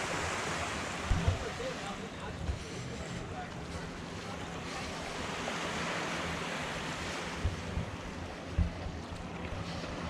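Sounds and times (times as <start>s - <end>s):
small waves washing on beach: 0.0s - 10.0s.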